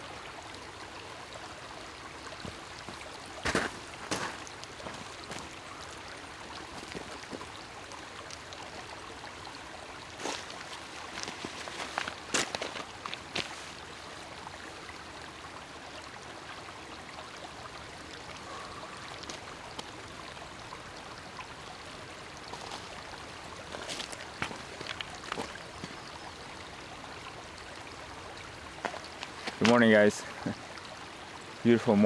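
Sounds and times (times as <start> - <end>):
water trickling over rocks: 0.0 - 32.0.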